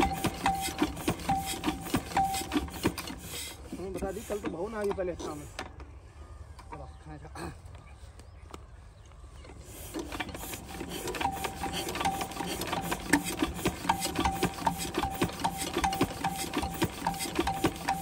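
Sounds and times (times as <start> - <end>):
diesel engine hand-cranked clacking: 0.0 - 5.9, 9.4 - 18.0.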